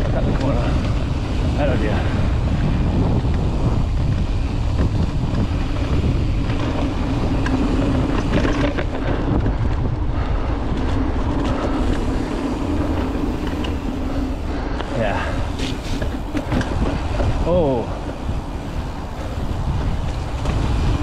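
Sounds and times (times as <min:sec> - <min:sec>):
bike rattling clicks and knocks: 0:00.0 - 0:21.0
bike tyre rumble: 0:00.0 - 0:21.0
wind buffeting microphone: 0:00.0 - 0:21.0.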